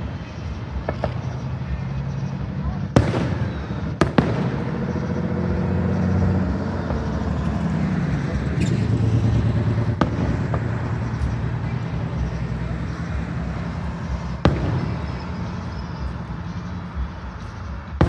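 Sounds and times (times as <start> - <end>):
low rumble with engine hum: 0.0 - 18.0
firework bang: 0.4 - 18.0
faint firework cracks: 0.7 - 7.8, 8.4 - 18.0.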